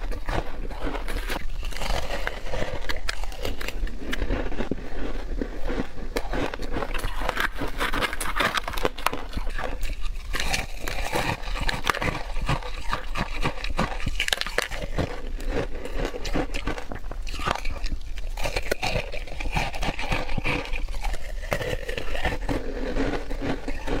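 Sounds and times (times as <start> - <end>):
chewing crushed ice: 0.0 - 24.0.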